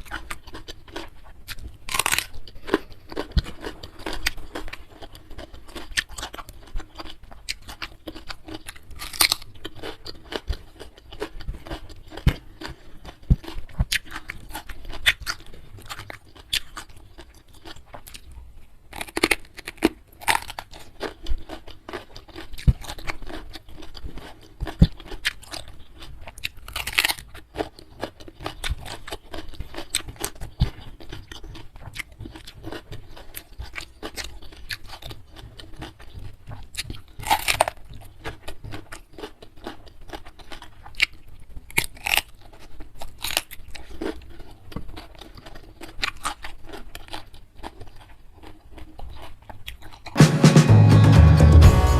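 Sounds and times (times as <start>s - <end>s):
person chewing and crunching food: 0.0s - 50.2s.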